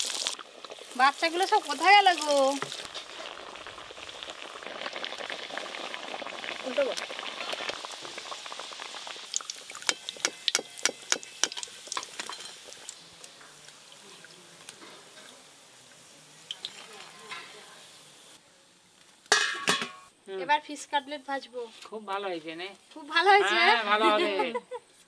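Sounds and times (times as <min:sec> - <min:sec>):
hot oil sizzling and popping: 0:00.0 - 0:23.6.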